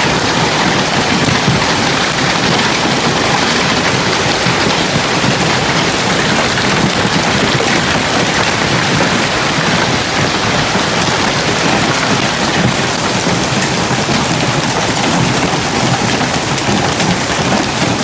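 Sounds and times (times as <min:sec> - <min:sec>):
hail and heavy rain clattering: 0:00.0 - 0:18.0.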